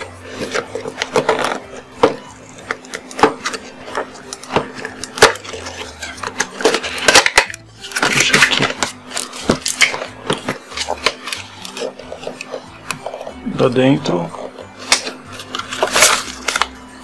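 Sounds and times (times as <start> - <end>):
rustling packaging: 0.0 - 17.0.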